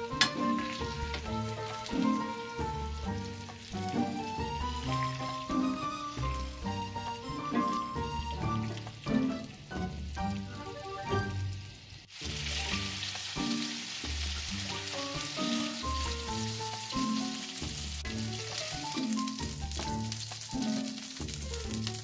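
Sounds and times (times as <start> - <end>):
background music with bass line: 0.0 - 11.5, 14.0 - 22.0
meat sizzling in oil: 0.0 - 22.0.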